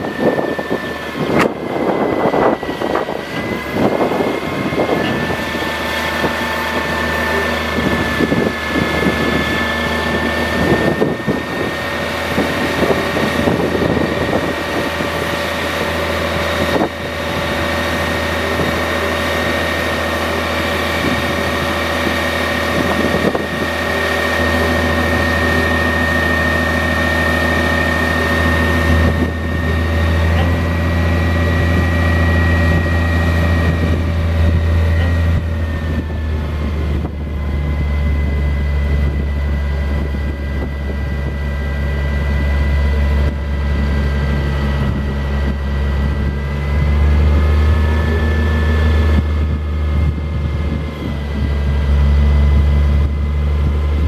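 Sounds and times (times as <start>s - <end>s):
diesel engine running: 0.0s - 54.0s
high hydraulic whine: 0.0s - 54.0s.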